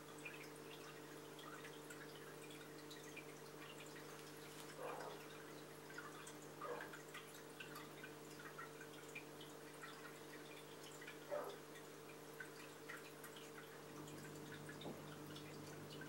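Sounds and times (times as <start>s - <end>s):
aquarium pump hum: 0.0s - 16.0s
water dripping and bubbling: 0.0s - 16.0s.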